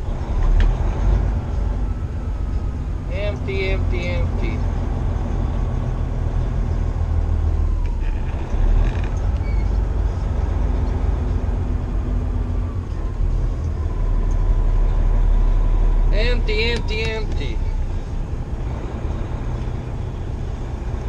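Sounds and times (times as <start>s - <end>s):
truck diesel engine droning: 0.0s - 21.0s.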